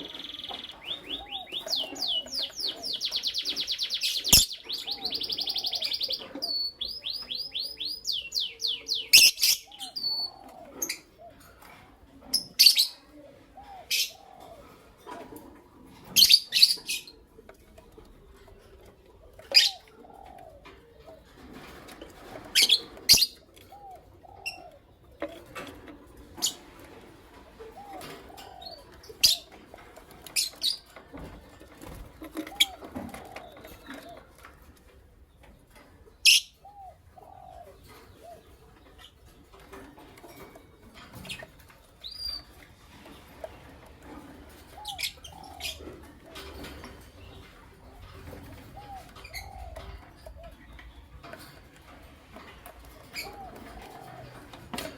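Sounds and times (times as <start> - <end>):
lovebirds chirping: 0.0 - 11.5, 12.3 - 15.1, 19.4 - 26.7, 27.5 - 54.9.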